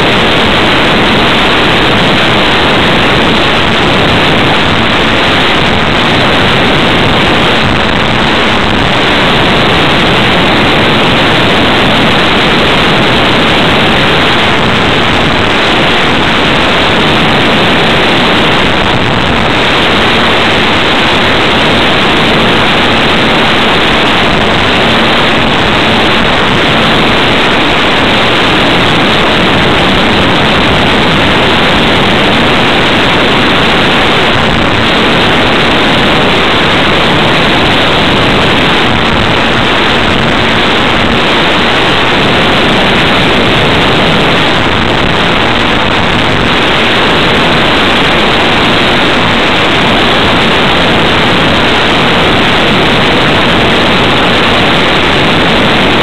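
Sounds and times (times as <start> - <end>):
airflow rushing over microphone: 0.0 - 56.0.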